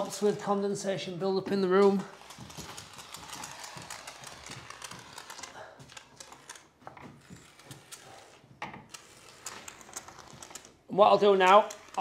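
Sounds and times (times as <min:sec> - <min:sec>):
foam gun hissing and crackling: 0:01.8 - 0:12.0.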